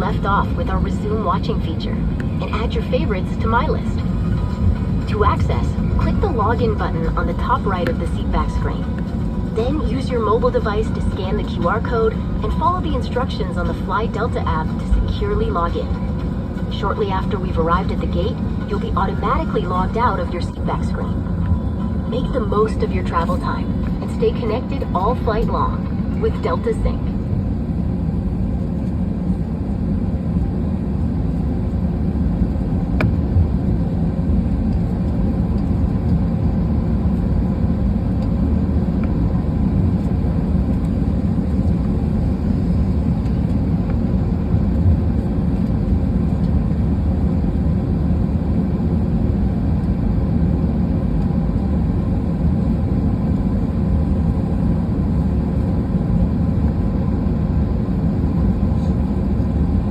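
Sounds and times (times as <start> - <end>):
jet cabin engine hum: 0.0 - 59.9.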